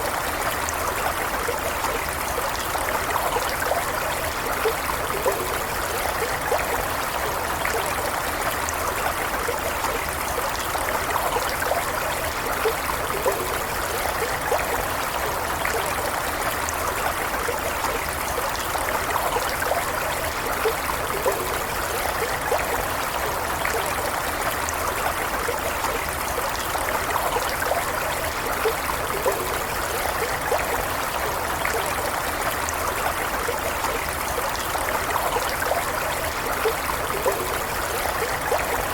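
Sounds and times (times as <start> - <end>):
stream water rushing and bubbling: 0.0 - 38.9.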